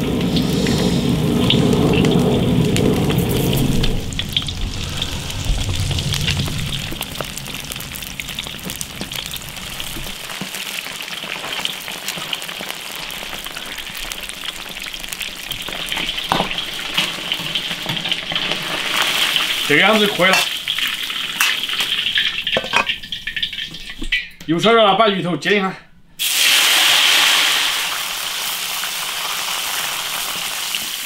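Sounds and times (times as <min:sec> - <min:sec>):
food deep-frying in oil: 0:00.0 - 0:24.4, 0:26.2 - 0:31.0.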